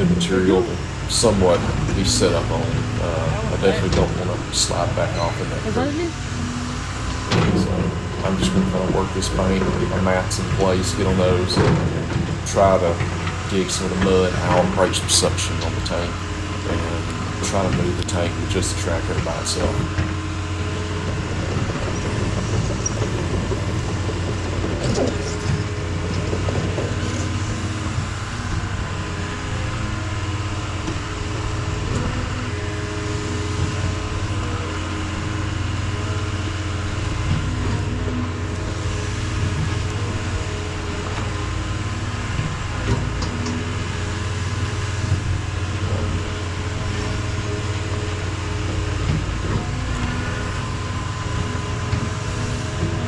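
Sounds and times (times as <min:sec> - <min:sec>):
excavator diesel engine running: 0:00.0 - 0:53.0
excavator digging: 0:00.0 - 0:53.0.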